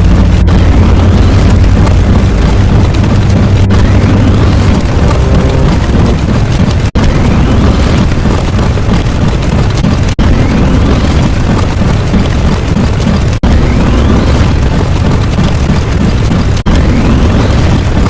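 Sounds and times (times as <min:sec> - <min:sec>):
layered explosion sound effects: 0:00.0 - 0:18.0.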